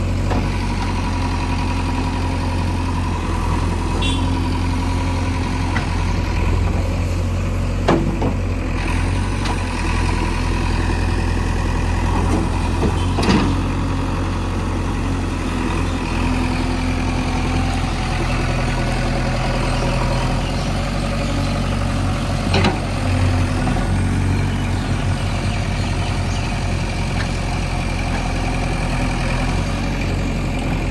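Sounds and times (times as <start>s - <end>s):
diesel engine at low revs: 0.0s - 30.9s.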